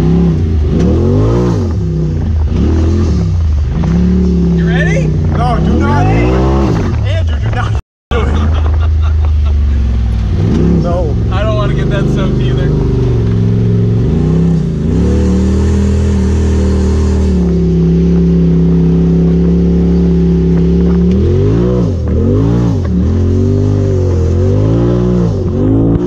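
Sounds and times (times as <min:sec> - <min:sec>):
engine revving: 0:00.0 - 0:08.8, 0:09.4 - 0:26.0.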